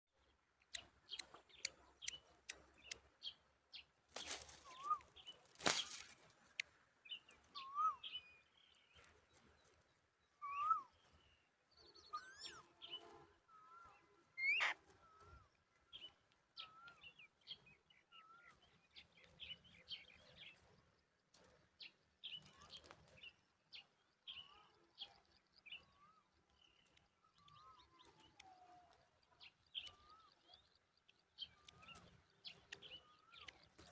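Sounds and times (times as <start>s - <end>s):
birds chirping: 0.2s - 33.9s.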